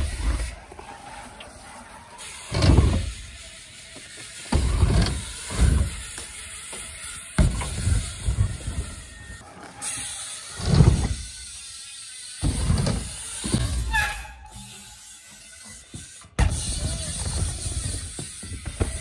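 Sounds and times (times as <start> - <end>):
bike tyres rumbling on ramps: 0.0 - 14.2, 16.0 - 19.0.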